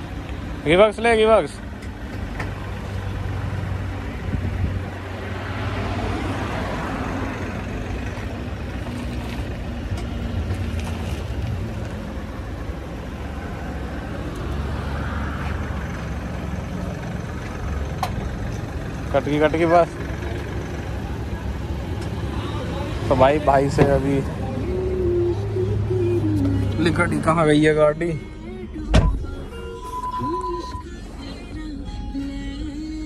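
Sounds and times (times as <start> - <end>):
road traffic passing: 0.0 - 33.0
vehicle engine idling: 6.0 - 33.0.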